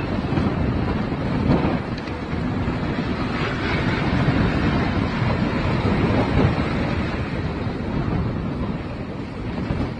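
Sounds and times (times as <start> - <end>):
storm surf rushing: 0.0 - 9.9
wind buffeting microphone: 0.0 - 9.9.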